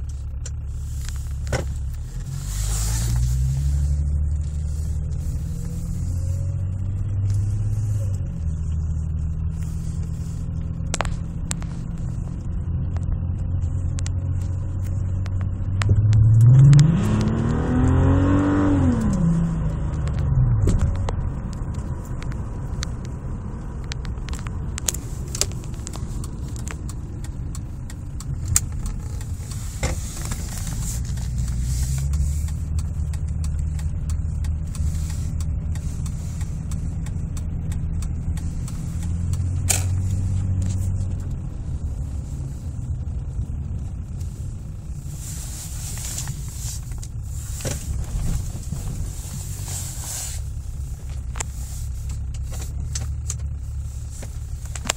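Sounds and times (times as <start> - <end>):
car engine idling unevenly: 0.0 - 17.3, 18.7 - 54.9
engine revving: 0.0 - 54.9.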